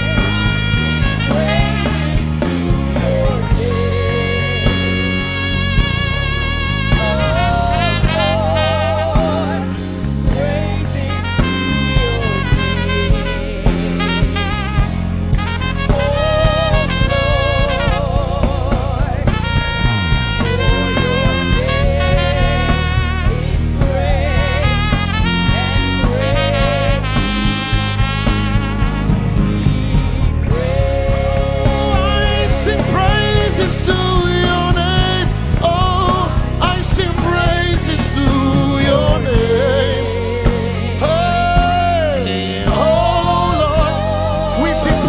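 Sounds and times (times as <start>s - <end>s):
band playing worship music: 0.0s - 45.0s
brass instrument melody: 0.0s - 45.0s
keyboard and bass accompaniment: 0.0s - 45.0s
steady drum beat: 0.0s - 45.0s.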